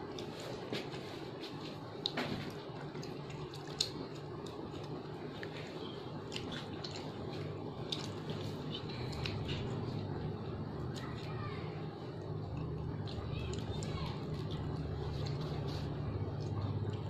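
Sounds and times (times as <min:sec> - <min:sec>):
biscuits crunching: 0:00.0 - 0:17.0
low background hum: 0:00.0 - 0:17.0.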